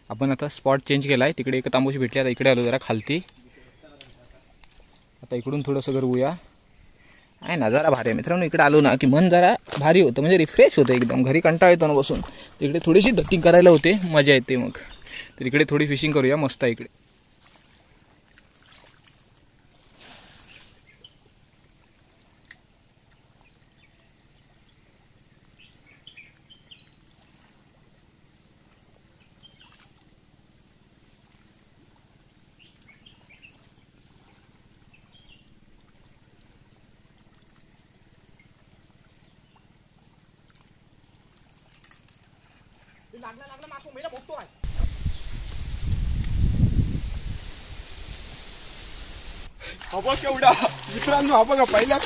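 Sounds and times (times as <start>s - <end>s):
low steady outdoor ambience: 0.0s - 45.9s, 47.1s - 52.0s.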